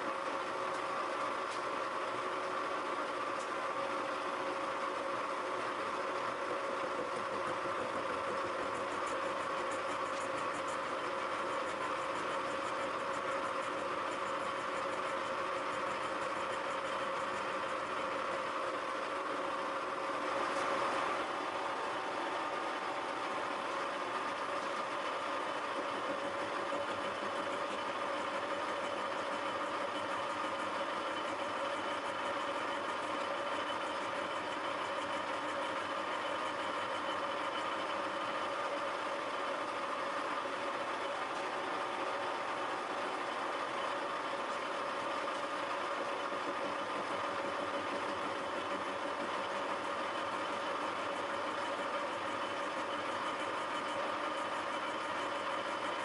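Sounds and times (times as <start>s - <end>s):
milling machine humming: 0.0s - 56.0s.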